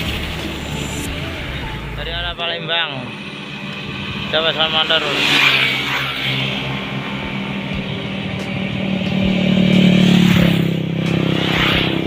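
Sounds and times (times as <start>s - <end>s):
heavy vehicle engine droning past: 0.0s - 12.0s
vehicle rushing past: 0.0s - 12.0s.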